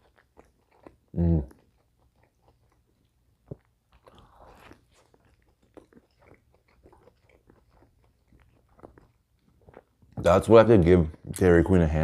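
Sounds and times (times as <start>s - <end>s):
chewing with wet mouth clicks: 0.0s - 11.5s.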